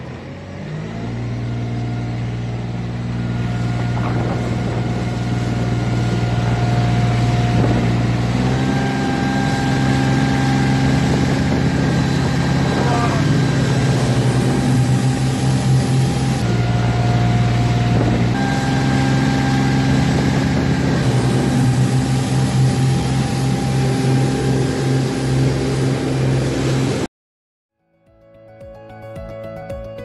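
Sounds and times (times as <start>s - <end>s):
boat engine droning: 0.0s - 27.1s.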